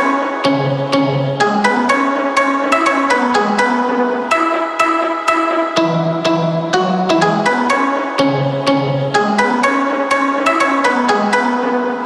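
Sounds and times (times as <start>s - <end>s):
instrumental theme music: 0.0s - 12.0s.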